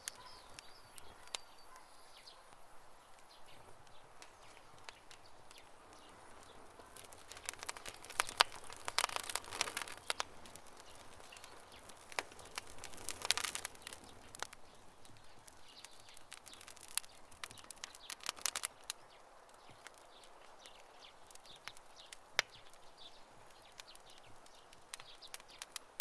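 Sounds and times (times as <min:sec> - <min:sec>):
campfire crackling and popping: 0:00.0 - 0:26.0
soft steady hiss: 0:00.0 - 0:26.0.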